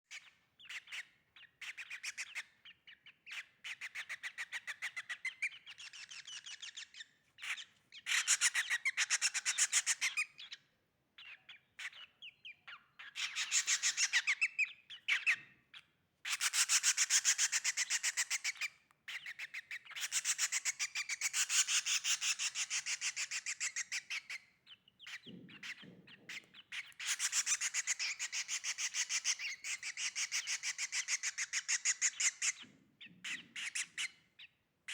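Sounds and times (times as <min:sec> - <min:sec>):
baby bird chirping: 0:00.1 - 0:10.6, 0:11.2 - 0:34.9.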